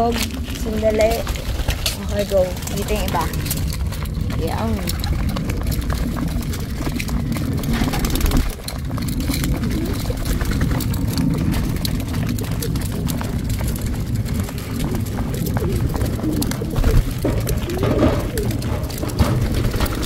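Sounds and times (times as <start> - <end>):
pigeons cooing: 0.0 - 20.0
pigeons pecking at metal trough: 0.0 - 20.0.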